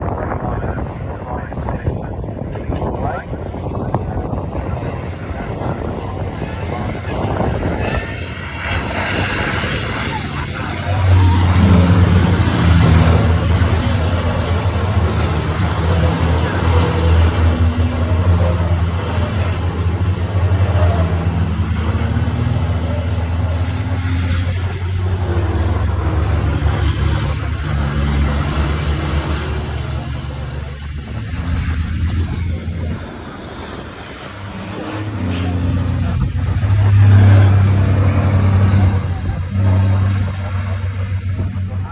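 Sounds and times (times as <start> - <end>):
diesel truck engine drone: 0.0 - 41.9.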